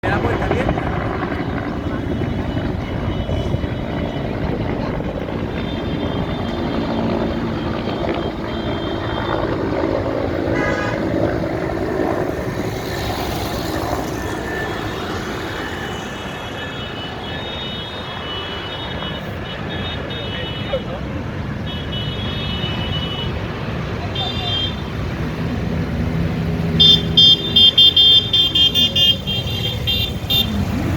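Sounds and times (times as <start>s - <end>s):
motorcycle engines running: 0.0s - 16.7s, 22.8s - 30.9s
horns tooting: 0.0s - 25.1s, 26.7s - 30.9s.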